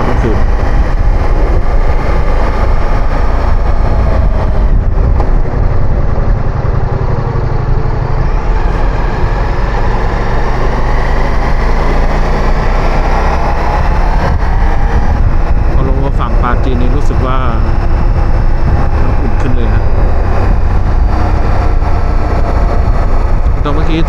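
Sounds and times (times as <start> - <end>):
motorcycle engine hum: 0.0 - 24.0
wind rumble on microphone: 0.0 - 24.0.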